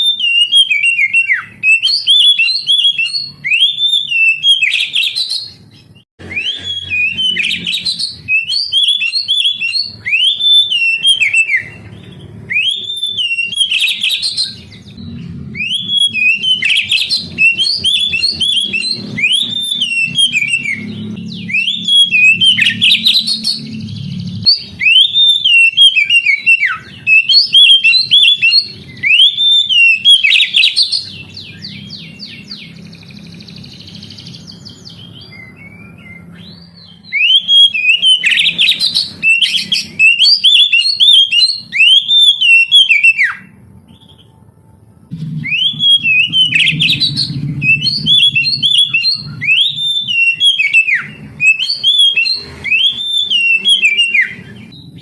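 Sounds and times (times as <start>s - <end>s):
bird singing whistled notes: 0.0s - 44.4s, 45.1s - 55.0s.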